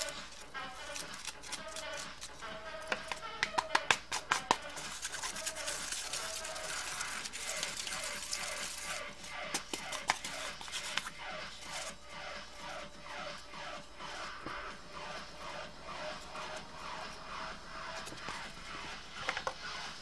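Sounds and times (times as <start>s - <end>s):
polystyrene foam rubbing: 0.0s - 3.4s, 4.2s - 20.0s.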